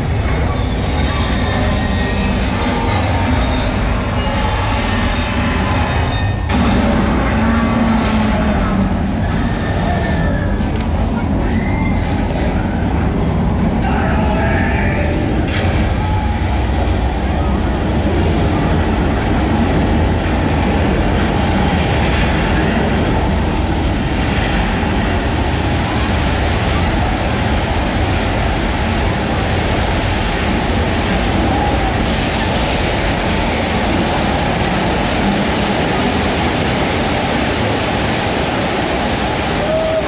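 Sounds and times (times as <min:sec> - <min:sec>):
deep steady rumbling: 0:00.0 - 0:40.0.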